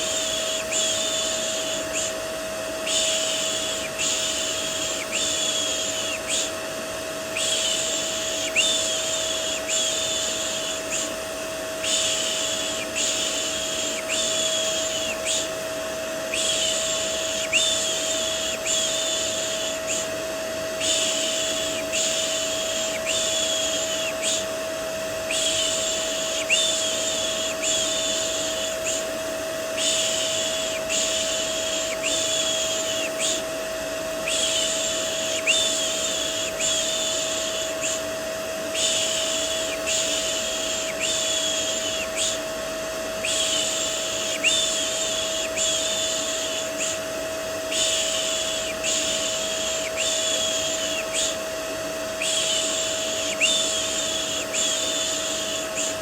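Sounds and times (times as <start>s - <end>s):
vacuum cleaner humming: 0.0s - 56.0s.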